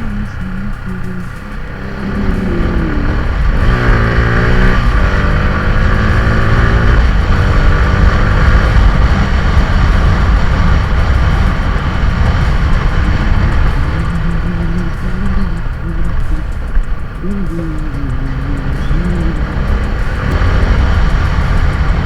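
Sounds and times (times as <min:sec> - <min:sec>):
motorcycle engine revving: 0:00.0 - 0:22.0
wind rumble on microphone: 0:00.0 - 0:22.0.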